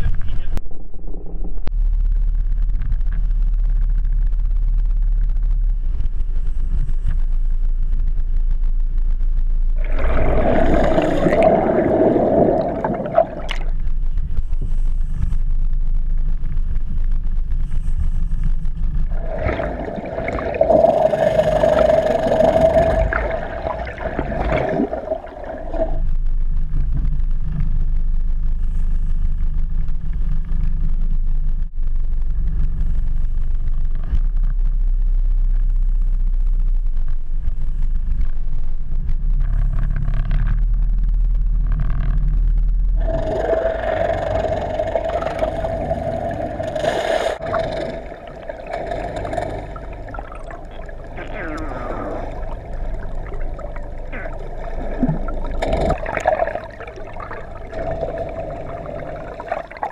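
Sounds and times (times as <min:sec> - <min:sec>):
mid-pitched tone with hiss: 0:00.0 - 0:59.9.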